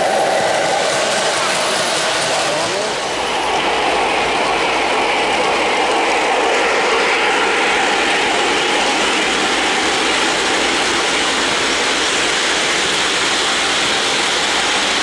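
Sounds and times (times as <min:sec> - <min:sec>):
model train wheels clattering on rails: 0:00.0 - 0:15.0.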